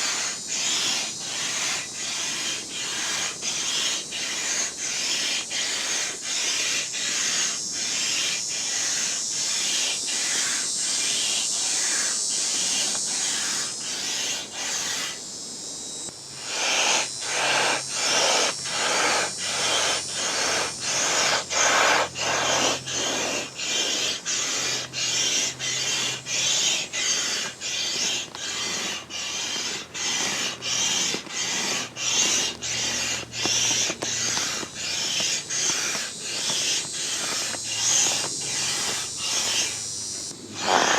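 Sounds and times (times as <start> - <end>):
air pump hissing strokes: 0.0 - 40.9.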